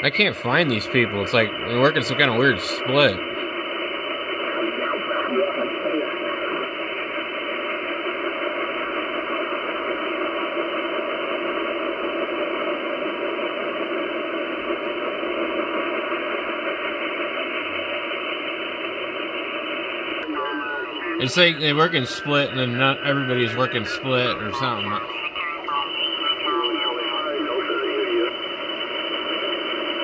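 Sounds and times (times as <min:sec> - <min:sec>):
radio band noise hiss: 0:00.0 - 0:30.0.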